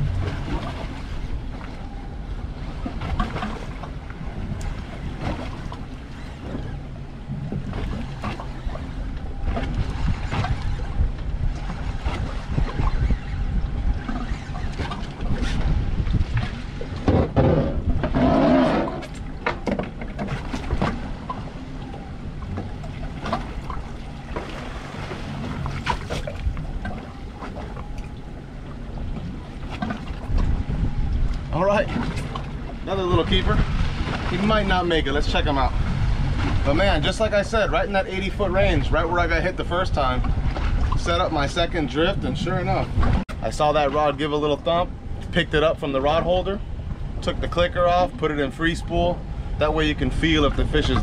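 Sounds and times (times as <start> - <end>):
water slapping boat hull: 0.0 - 51.0
wind buffeting microphone: 0.0 - 51.0.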